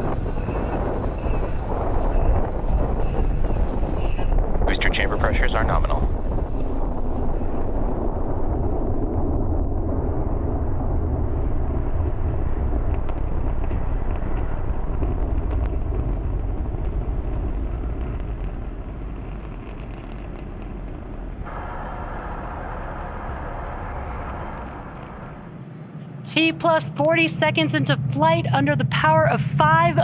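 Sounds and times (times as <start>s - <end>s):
rocket engines rumbling: 0.0s - 30.0s.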